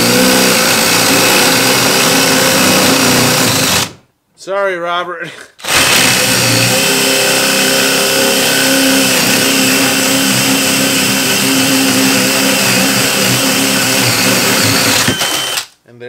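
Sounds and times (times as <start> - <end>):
cordless drill boring into wood: 0.0 - 4.0, 5.6 - 15.7.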